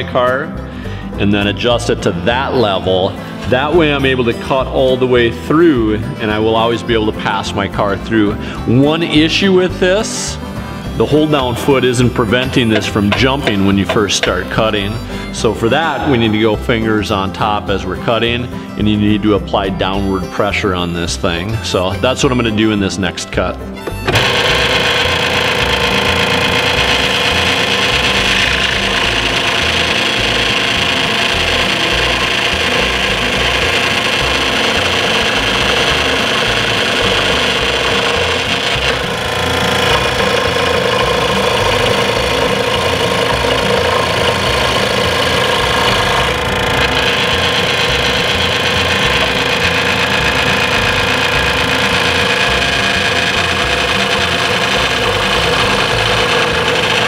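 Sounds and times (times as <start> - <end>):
scroll saw cutting wood: 1.1 - 18.8, 20.4 - 57.0.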